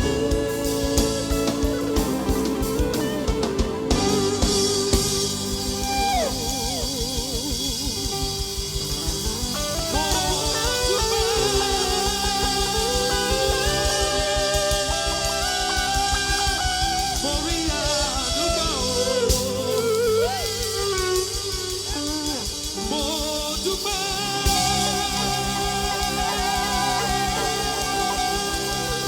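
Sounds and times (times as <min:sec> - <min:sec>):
guitar: 0:00.0 - 0:29.0
live band music: 0:00.0 - 0:29.0
steady drum beat: 0:00.0 - 0:29.0.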